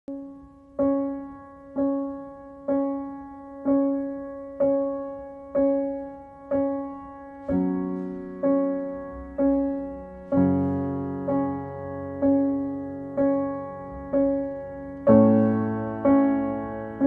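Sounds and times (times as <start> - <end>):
piano notes and chords: 0.1 - 17.0.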